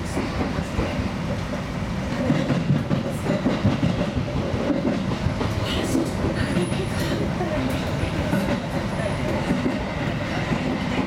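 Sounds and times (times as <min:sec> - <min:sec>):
train car rumble and rattle: 0:00.0 - 0:11.0.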